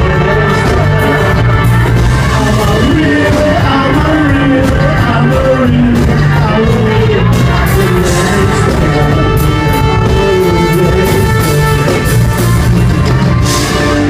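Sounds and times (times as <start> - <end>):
live rock band instrumental: 0.0 - 14.0.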